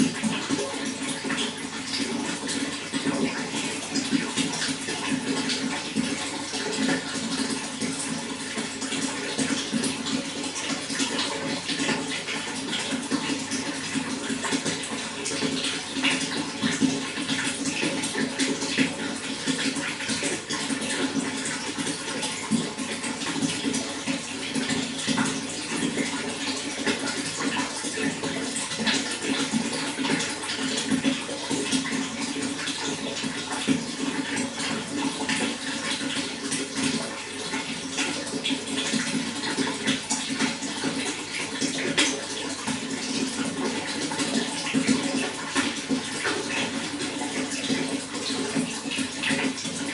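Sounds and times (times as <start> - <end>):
running water with splashes: 0.0 - 49.9.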